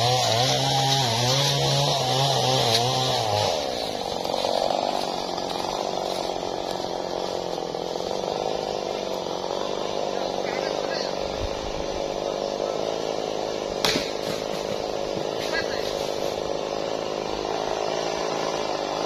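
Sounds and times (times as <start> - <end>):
steady motor drone: 0.0 - 19.0.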